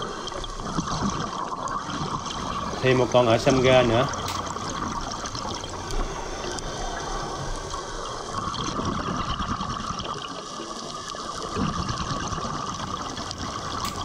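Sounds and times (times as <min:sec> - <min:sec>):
water gurgling: 0:00.0 - 0:14.0
underwater hiss: 0:01.7 - 0:14.0.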